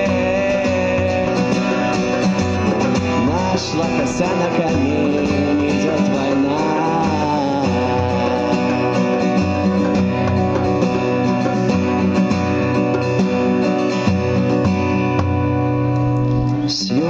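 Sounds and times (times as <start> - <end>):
djembe hand-drum beat: 0.0 - 15.7
acoustic guitar strumming chords: 0.0 - 17.0.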